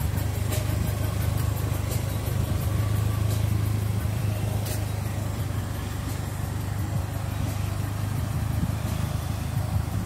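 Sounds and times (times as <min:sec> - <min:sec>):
engine idling with low hum: 0:00.0 - 0:10.0.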